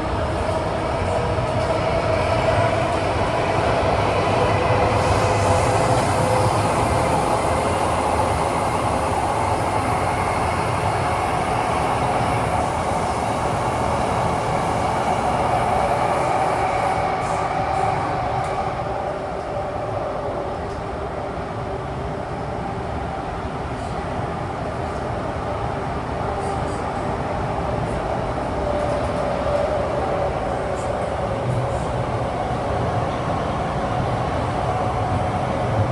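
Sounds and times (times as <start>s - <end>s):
train rumbling through tunnel: 0.0s - 35.9s.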